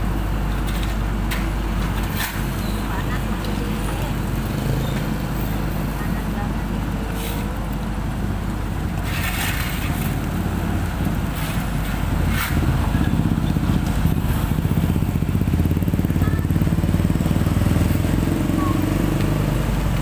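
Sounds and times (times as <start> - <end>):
dump truck diesel engine running: 0.0 - 20.0.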